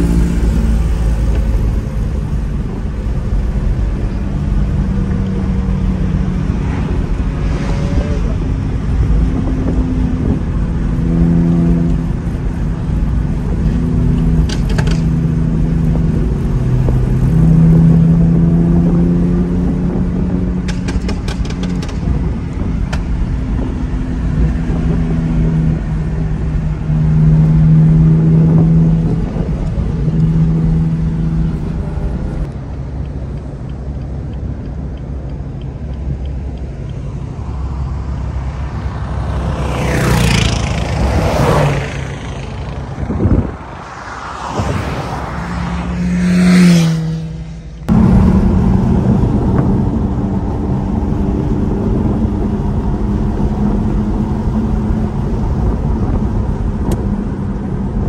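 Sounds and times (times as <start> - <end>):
car engine and exhaust drone: 0.0 - 58.0.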